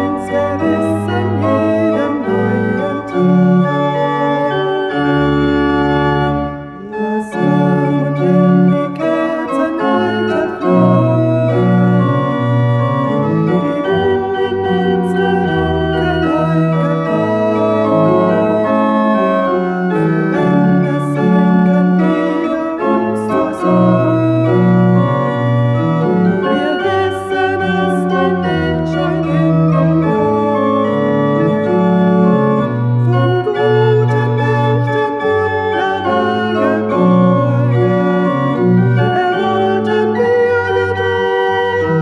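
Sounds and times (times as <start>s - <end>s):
pipe organ playing chords: 0.0s - 42.0s.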